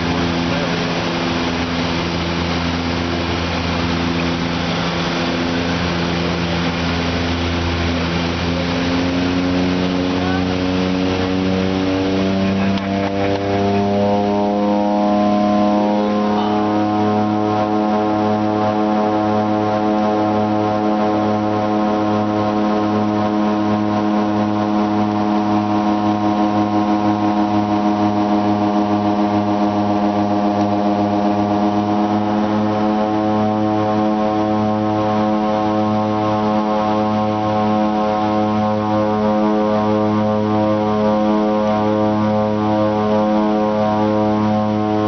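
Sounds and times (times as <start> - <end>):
aircraft propellers droning: 0.0 - 45.0.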